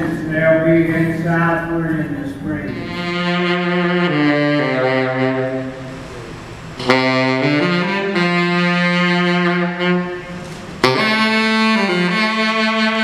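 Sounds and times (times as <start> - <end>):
tenor saxophone slow melody: 2.5 - 13.0.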